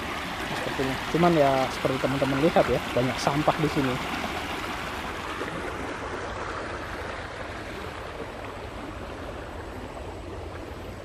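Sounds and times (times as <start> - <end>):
stream babbling over rocks: 0.0 - 11.0.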